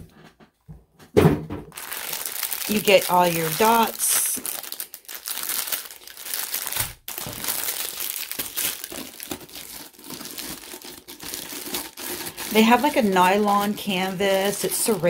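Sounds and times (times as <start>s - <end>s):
plastic packaging crinkling: 1.7s - 15.0s.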